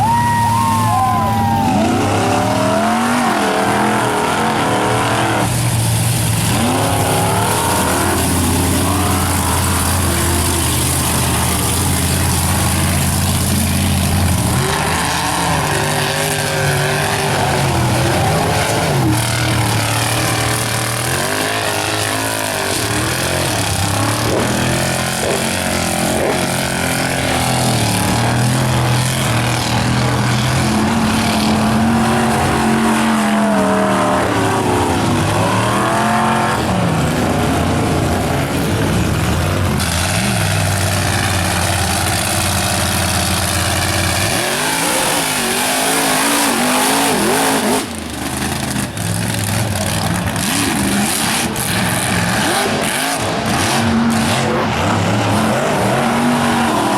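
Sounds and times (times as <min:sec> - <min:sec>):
truck engines revving hard: 0:00.0 - 0:56.9.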